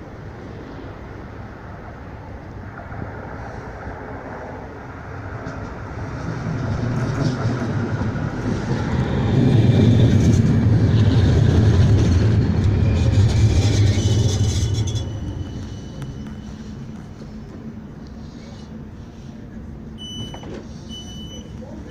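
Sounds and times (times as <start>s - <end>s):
tram rumbling on rails: 0.0s - 21.9s.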